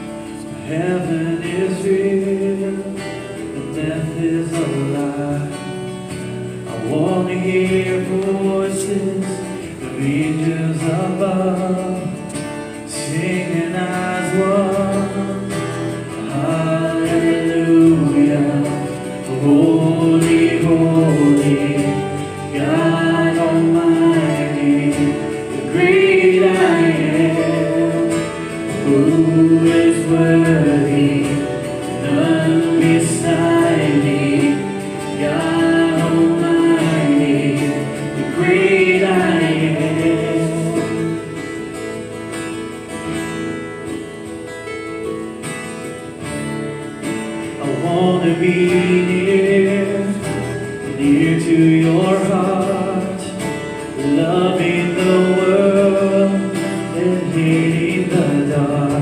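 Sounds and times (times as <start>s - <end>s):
people singing: 0.0s - 43.8s, 47.0s - 59.0s
acoustic guitars: 0.0s - 59.0s
keyboard: 0.0s - 59.0s.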